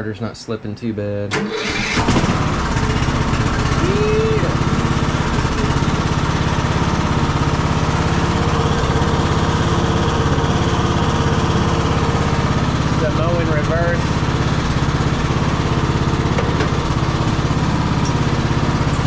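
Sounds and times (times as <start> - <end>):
riding tractor engine running: 1.3 - 19.0.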